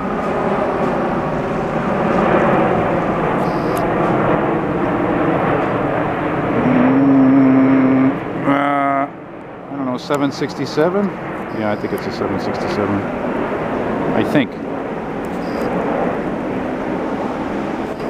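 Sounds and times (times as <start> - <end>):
jet airliner engines: 0.0 - 18.0
steady low hum: 0.0 - 18.0.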